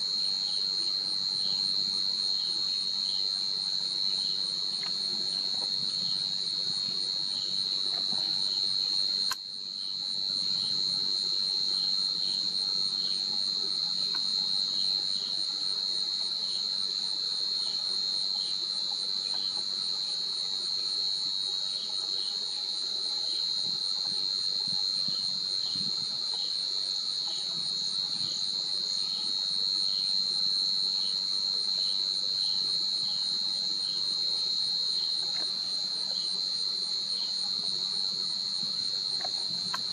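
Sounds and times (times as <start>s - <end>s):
forest insects chorus: 0.0s - 39.9s.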